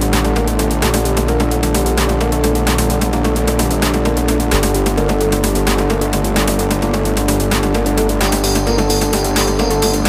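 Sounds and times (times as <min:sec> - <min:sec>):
electronic music with fast beat: 0:00.0 - 0:10.0.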